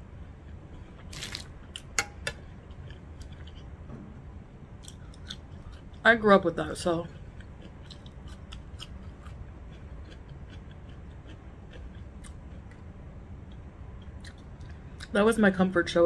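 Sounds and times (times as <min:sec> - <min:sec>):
person chewing food: 0:00.0 - 0:03.8, 0:04.8 - 0:06.0, 0:07.1 - 0:15.1
low steady hum: 0:00.0 - 0:16.0.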